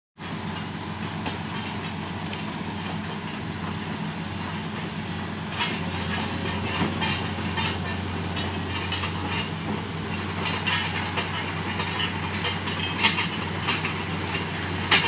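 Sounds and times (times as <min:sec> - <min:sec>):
excavator diesel engine running: 0:00.2 - 0:15.0.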